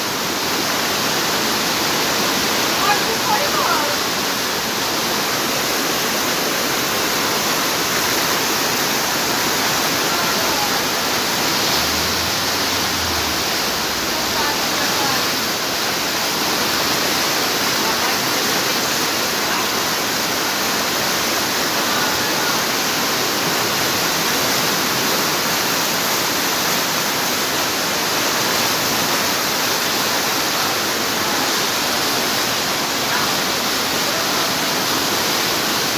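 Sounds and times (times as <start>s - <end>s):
floodwater rushing: 0.0s - 35.9s
heavy rain pouring: 0.0s - 35.9s.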